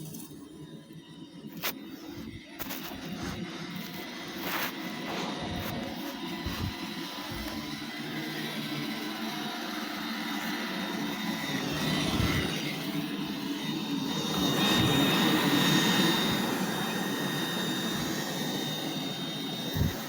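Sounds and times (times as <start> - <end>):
robot vacuum whirring: 1.5 - 20.0.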